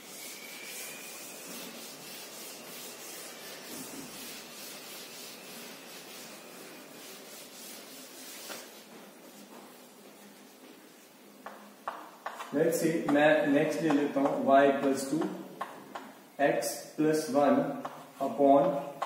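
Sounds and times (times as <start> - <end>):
duster wiping chalkboard: 0.0 - 15.7, 17.7 - 19.0.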